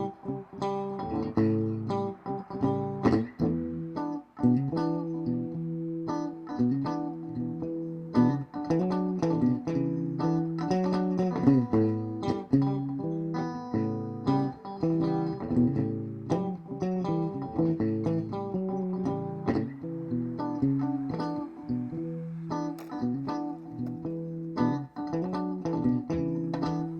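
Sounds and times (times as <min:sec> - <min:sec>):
plucked guitar with bass: 0:00.0 - 0:26.9.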